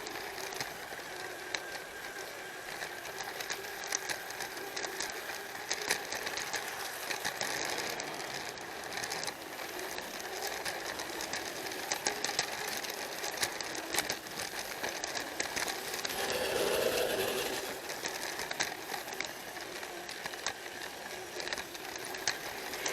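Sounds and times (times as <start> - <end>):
toy train motor whirring: 0.0 - 22.9
wheels clicking over rail joints: 0.0 - 22.9.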